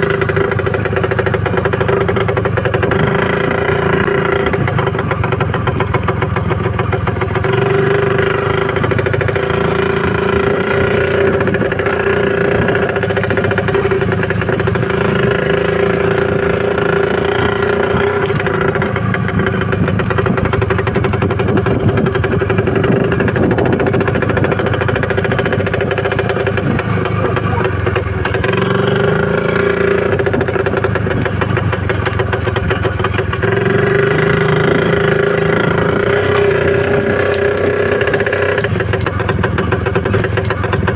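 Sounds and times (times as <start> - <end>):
two-stroke motorcycle engine running: 0.0 - 40.9.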